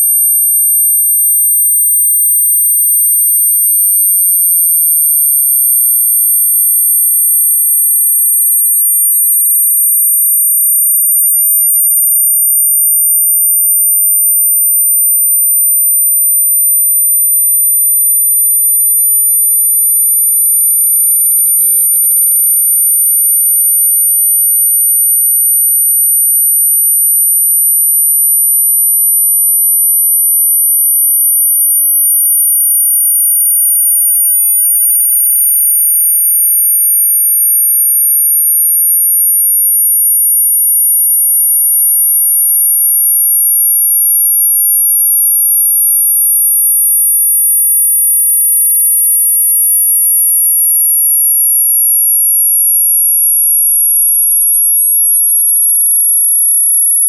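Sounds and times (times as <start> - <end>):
high-pitched electronic sine tones: 0.0 - 57.0.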